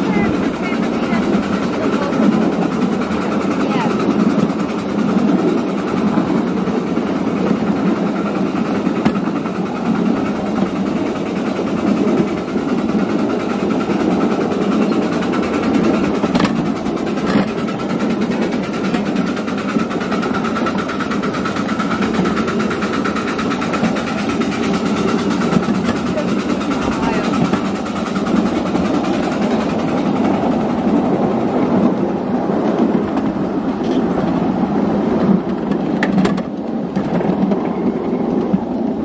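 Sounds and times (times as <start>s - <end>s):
miniature train wheels clattering: 0.0s - 39.0s.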